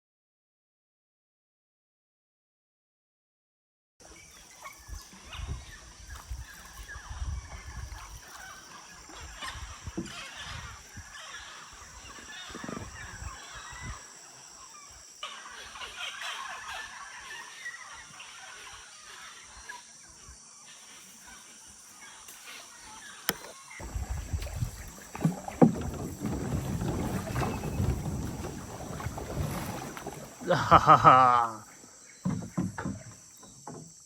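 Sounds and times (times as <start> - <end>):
bird or frog chirps: 4.0 - 34.0
high insect drone: 4.0 - 34.0.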